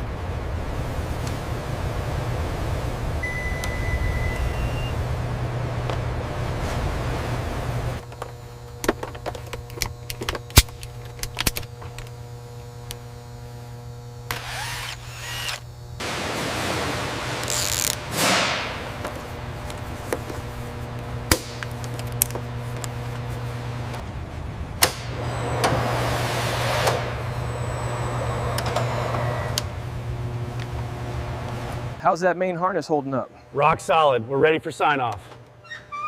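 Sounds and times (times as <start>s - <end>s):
steady low hum: 0.0s - 35.7s.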